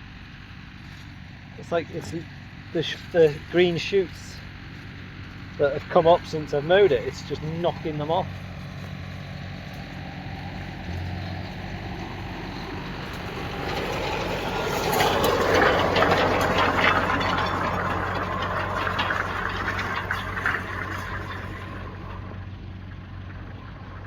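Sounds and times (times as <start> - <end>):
tractor engine running: 0.0 - 24.0
hay rake rattling: 0.8 - 23.6.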